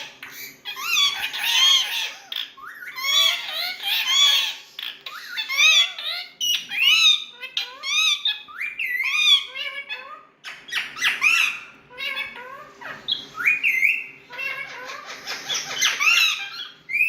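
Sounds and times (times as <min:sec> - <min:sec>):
parakeets squawking: 0:00.0 - 0:17.0.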